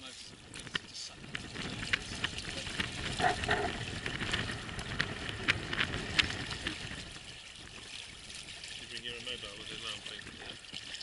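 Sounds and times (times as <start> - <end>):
small waves lapping against hull: 0.0 - 11.0.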